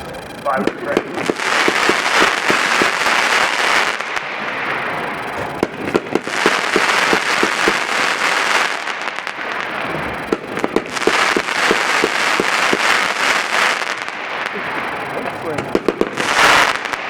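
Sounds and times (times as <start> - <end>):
firework crackle: 0.0 - 17.0
firework pops: 0.4 - 17.0.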